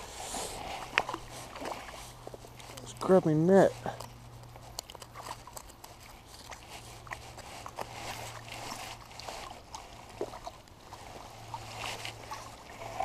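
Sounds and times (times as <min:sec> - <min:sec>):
fish splashing in water: 0:00.0 - 0:03.0, 0:04.5 - 0:13.0
net and plants rustling: 0:00.0 - 0:13.0.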